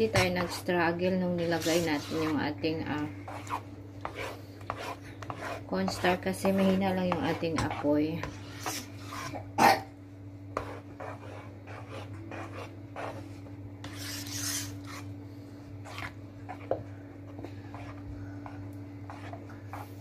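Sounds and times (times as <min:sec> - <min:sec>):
spatula scraping a pan: 0:00.0 - 0:02.4, 0:03.2 - 0:09.5, 0:10.6 - 0:15.1, 0:15.8 - 0:20.0
steady low hum: 0:00.0 - 0:20.0.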